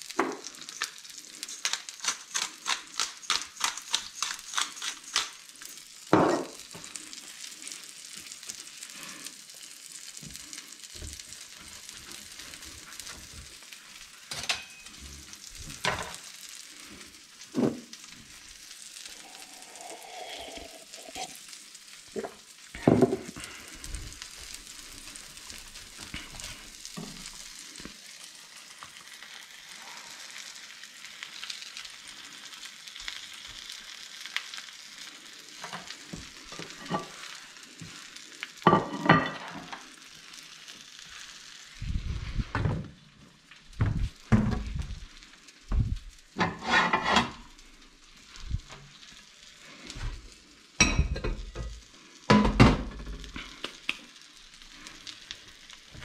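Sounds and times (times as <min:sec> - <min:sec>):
egg mixture sizzling in a frying pan: 0:00.0 - 0:56.0.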